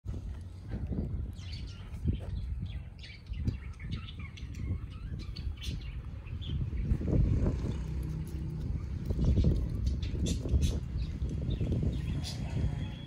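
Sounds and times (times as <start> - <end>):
low rumble: 0.1 - 13.0
small birds chirping: 0.2 - 13.0.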